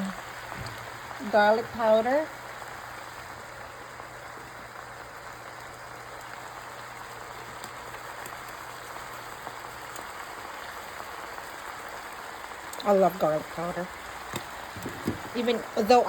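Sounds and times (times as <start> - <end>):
spinach sizzling in a frying pan: 0.0 - 16.0.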